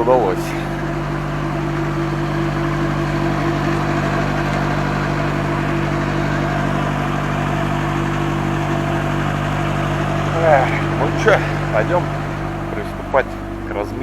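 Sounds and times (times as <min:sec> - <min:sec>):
truck diesel engine idling: 0:00.0 - 0:14.0.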